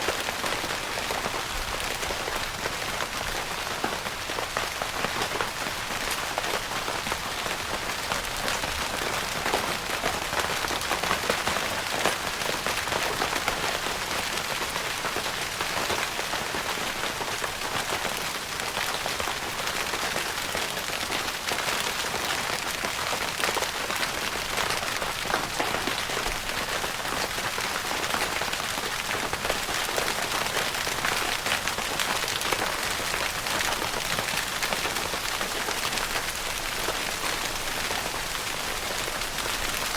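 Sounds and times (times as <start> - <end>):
rain on a tent roof: 0.0 - 39.9.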